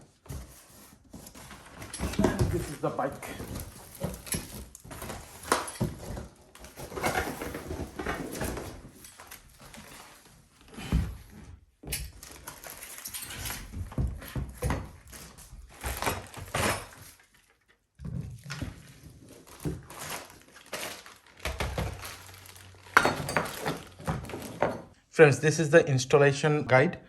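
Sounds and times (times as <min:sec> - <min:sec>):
packaging rustling and scraping: 0:00.0 - 0:11.2, 0:12.2 - 0:17.6, 0:18.4 - 0:24.9.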